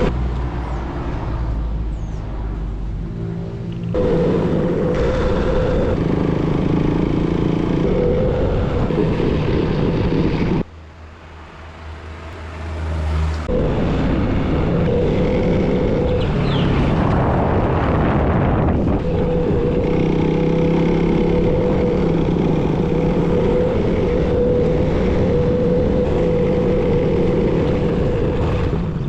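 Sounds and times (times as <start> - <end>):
vehicle engine running: 2.4 - 10.7, 13.2 - 29.0.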